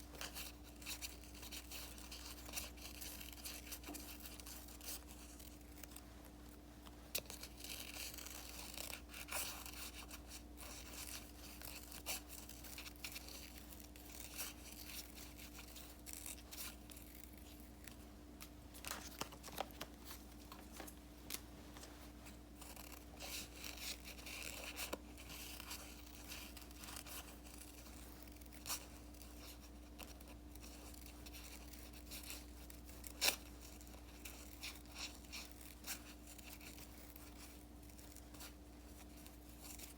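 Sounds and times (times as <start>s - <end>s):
faint electrical hum: 0.0s - 39.9s
sticker paper rustling and peeling: 0.1s - 39.9s.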